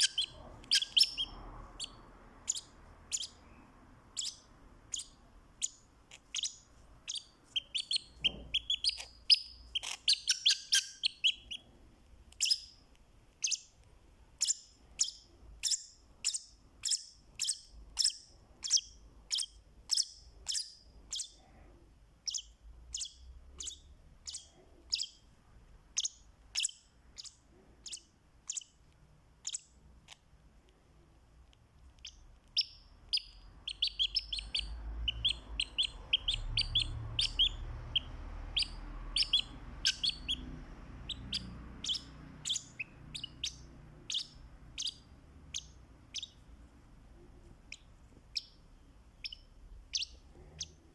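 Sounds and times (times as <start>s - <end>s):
lovebird chirping: 0.0s - 21.5s, 22.2s - 28.8s, 29.4s - 30.2s, 31.9s - 50.9s.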